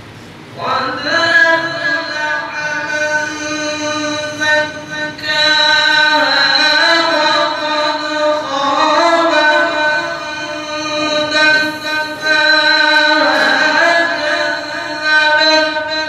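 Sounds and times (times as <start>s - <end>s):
man chanting solo: 0.6s - 16.0s.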